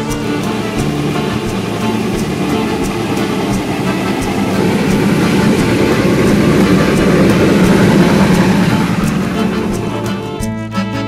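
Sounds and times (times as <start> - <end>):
steam locomotive rumble: 0.0 - 11.0.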